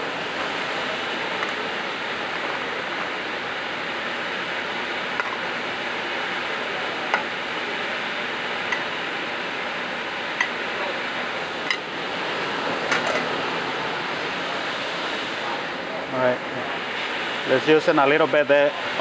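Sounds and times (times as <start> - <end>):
exhaust hood fan hissing: 0.0 - 19.0.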